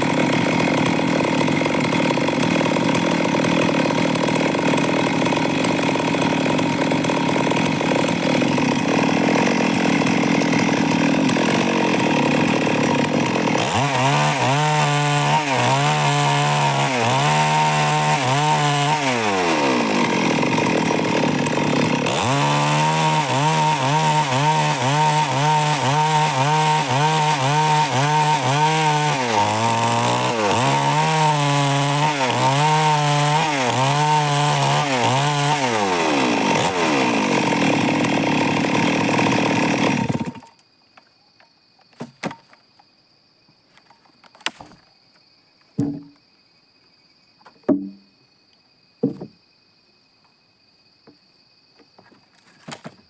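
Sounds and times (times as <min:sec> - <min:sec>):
chainsaw sawing wood: 0:00.0 - 0:40.6, 0:43.8 - 0:44.8, 0:45.7 - 0:46.2, 0:52.4 - 0:53.0.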